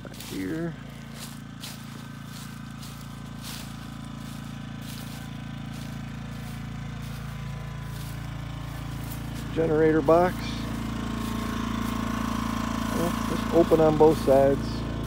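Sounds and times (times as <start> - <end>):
footsteps in dry leaves: 0.0 - 15.0
muffled generator hum: 0.0 - 15.0.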